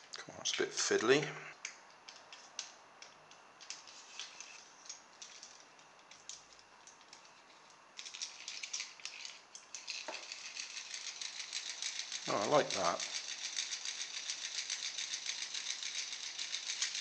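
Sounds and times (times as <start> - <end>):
small plastic clicks and rattles: 1.6 - 17.0.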